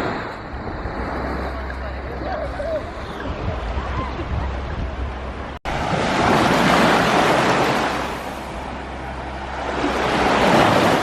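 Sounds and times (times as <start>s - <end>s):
waves breaking on a beach: 0.0s - 11.0s.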